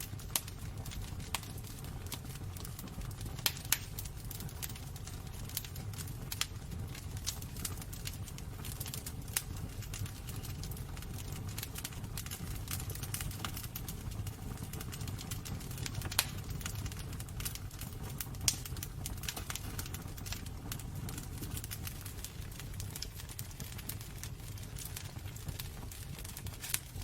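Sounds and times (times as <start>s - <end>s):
fire crackling and popping: 0.0s - 27.0s
fire rumbling: 0.0s - 27.0s.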